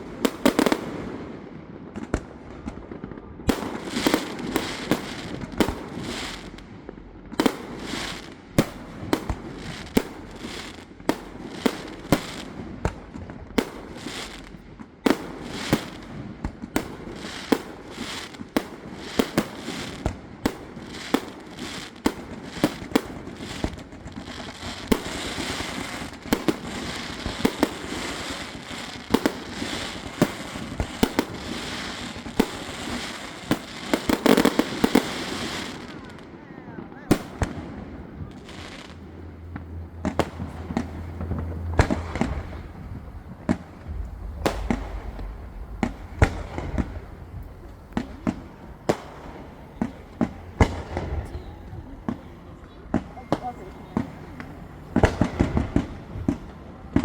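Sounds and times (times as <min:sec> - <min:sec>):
fireworks crackle and hiss: 0:00.0 - 0:57.0.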